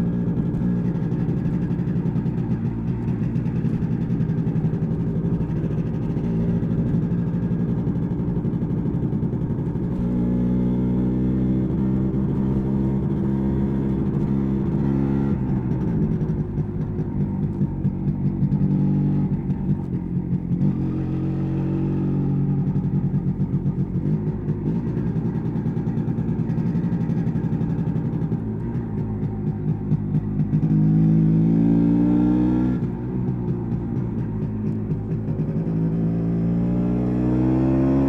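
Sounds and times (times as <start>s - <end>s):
two-stroke motorcycle engine running: 0.0s - 38.0s.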